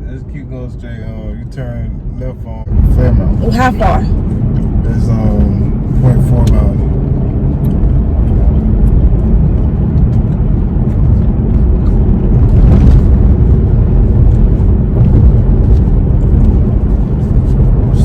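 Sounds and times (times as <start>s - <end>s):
car engine rumble: 0.0s - 18.0s
road noise: 0.0s - 18.0s.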